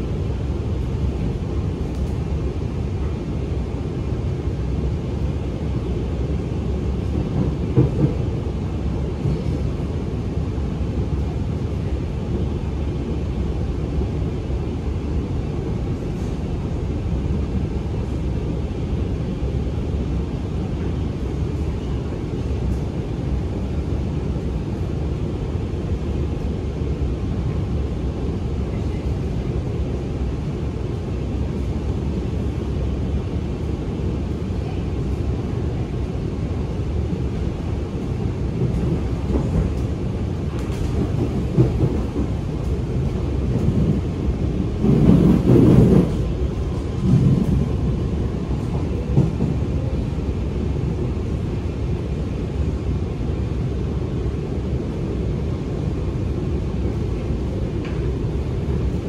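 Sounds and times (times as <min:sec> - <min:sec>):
metro train rumble: 0:00.0 - 0:59.0.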